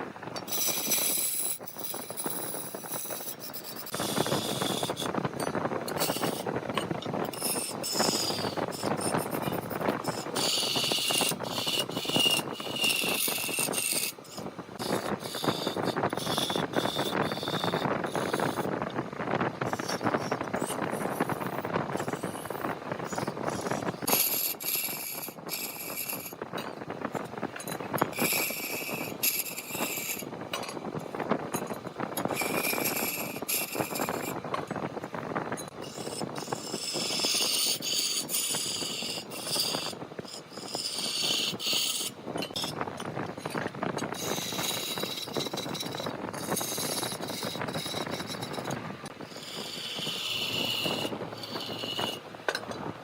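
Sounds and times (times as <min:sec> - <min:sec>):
turning tool cutting spinning wood: 0:00.0 - 0:34.9, 0:35.5 - 0:53.0.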